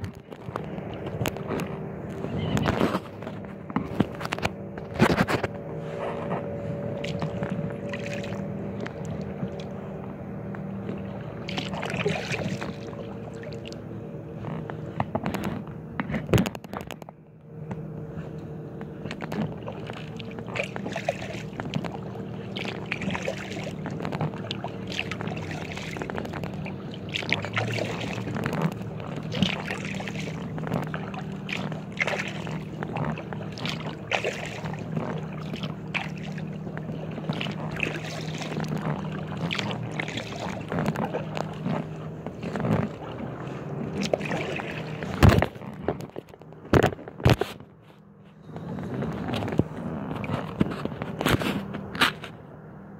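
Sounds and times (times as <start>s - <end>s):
paddle splashing in water: 0.0s - 13.8s, 19.0s - 47.6s
steady low hum: 0.0s - 52.9s.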